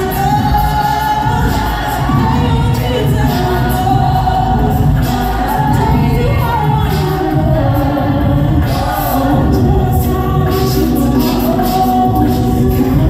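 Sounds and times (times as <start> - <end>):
group singing in harmony: 0.0 - 13.0
steady low bass: 0.0 - 13.0.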